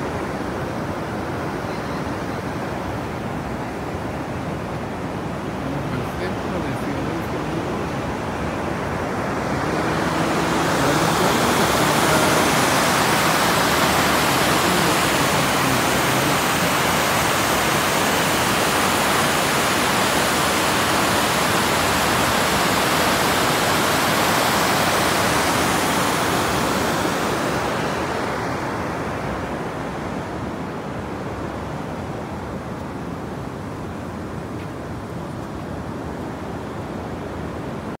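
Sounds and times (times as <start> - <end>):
water rushing over a weir: 0.0 - 38.0.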